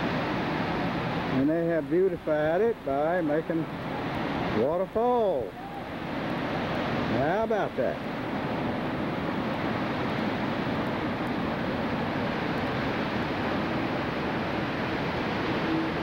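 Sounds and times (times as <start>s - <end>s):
fountain water cascading: 0.0s - 16.0s.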